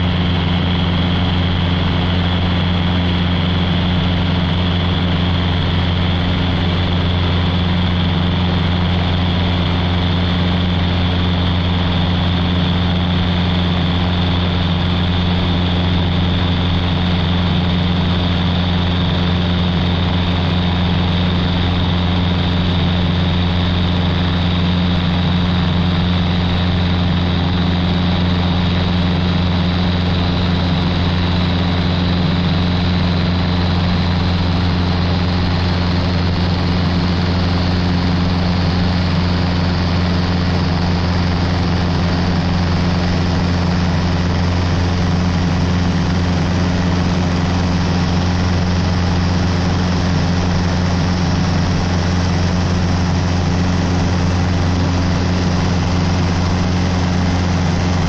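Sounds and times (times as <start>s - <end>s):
airplane engine and propeller drone: 0.0s - 58.0s
rush of airflow: 0.0s - 58.0s.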